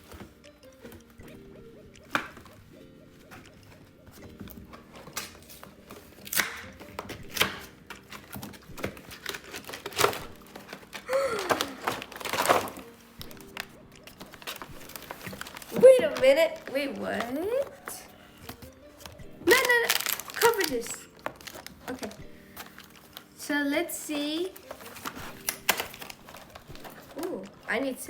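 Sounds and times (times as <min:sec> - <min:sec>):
packaging thunks and taps: 0:02.0 - 0:02.6, 0:03.2 - 0:23.3, 0:24.2 - 0:27.6
packaging crinkling: 0:04.4 - 0:23.4, 0:24.0 - 0:27.9.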